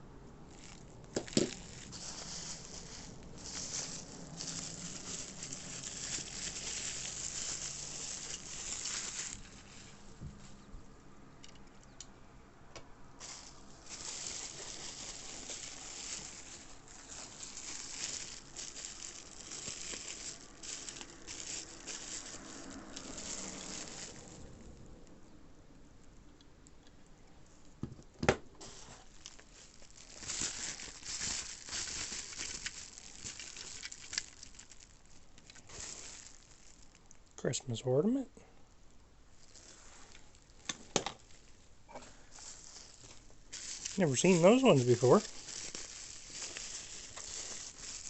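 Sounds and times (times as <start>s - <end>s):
packaging rustling and crinkling: 0.5s - 10.7s, 13.2s - 24.8s, 28.6s - 37.3s, 39.4s - 48.0s.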